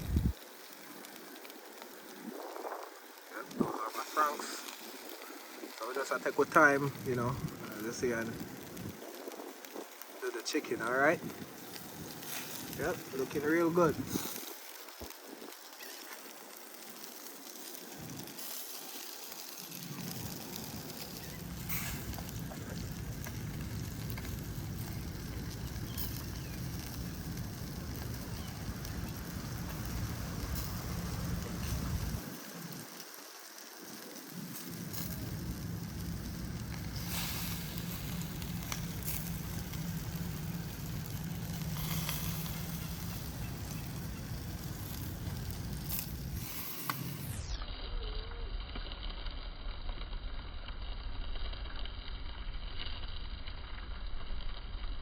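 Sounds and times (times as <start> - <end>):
low rumble: 0.0 - 0.4, 2.0 - 17.0, 19.3 - 55.0
chicken sizzling on wood fire: 0.0 - 55.0.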